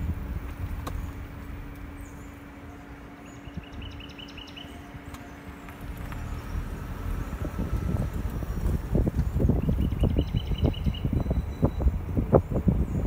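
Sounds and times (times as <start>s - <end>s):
road and wind noise: 0.0s - 13.0s
bird chirping: 0.8s - 13.0s.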